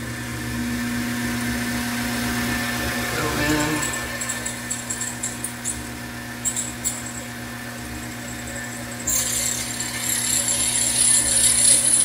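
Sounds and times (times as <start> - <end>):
lathe motor hum: 0.6 - 12.0.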